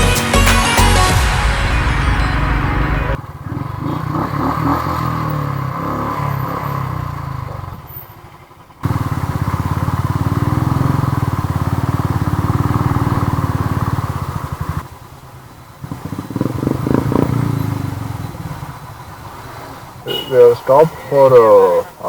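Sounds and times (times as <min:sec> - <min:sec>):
motorcycle engine running: 0:01.1 - 0:20.3.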